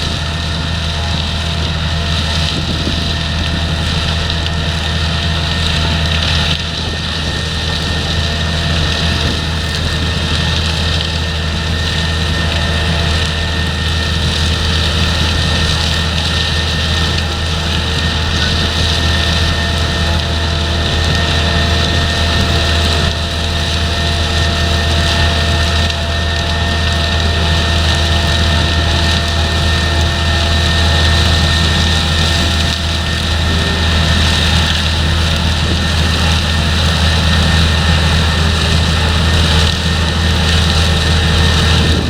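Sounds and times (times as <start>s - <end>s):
heavy harvesting machinery running: 0.0s - 42.0s.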